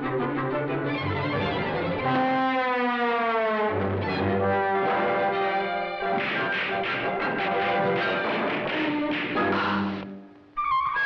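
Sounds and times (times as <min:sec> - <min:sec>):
orchestral brass cartoon music: 0:00.0 - 0:10.2.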